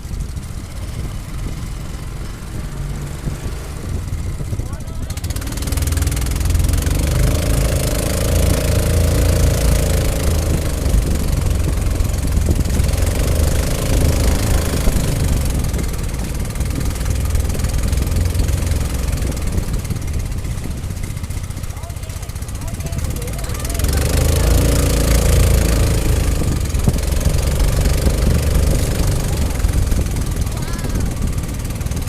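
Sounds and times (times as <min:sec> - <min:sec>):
boat motor running: 0:00.0 - 0:32.0
wind and water hiss: 0:00.0 - 0:32.0.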